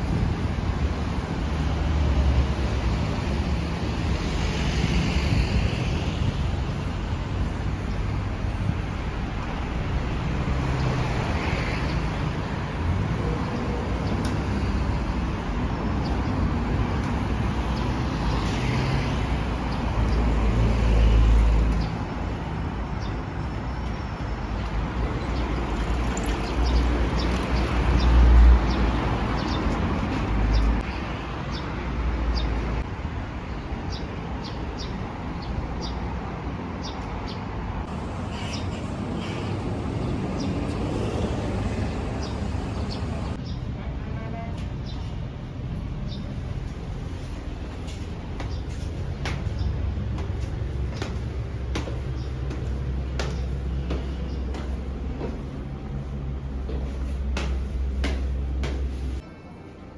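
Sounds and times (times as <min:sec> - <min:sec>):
vehicles rumbling past: 0:00.0 - 0:59.9.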